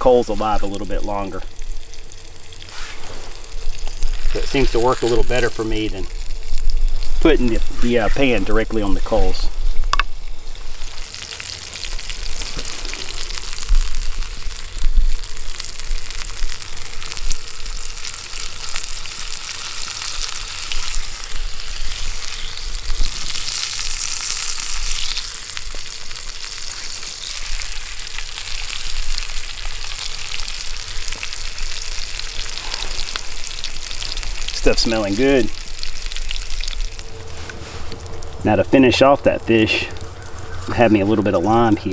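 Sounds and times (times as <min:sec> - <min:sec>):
fish sizzling in oil: 0:00.0 - 0:41.9.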